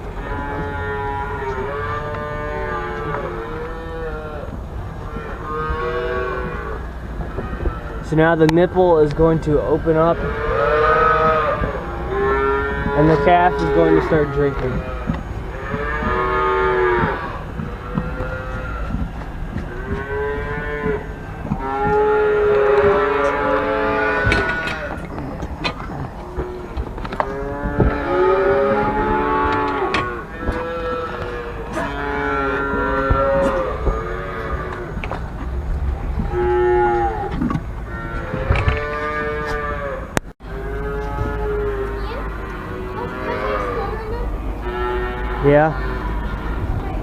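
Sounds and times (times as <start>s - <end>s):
calves bawling: 0.0s - 47.0s
wind on microphone: 1.4s - 40.2s, 41.1s - 47.0s.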